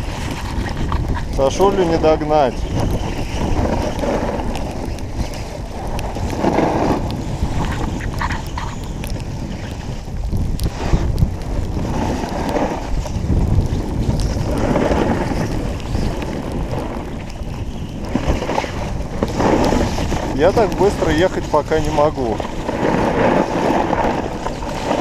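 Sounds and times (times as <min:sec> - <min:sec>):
skis rushing over snow: 0:00.0 - 0:25.0
wind buffeting microphone: 0:00.0 - 0:25.0.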